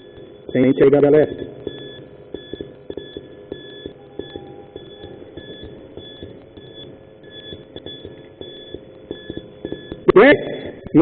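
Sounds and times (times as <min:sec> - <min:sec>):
high electronic beeps: 0:00.0 - 0:11.0.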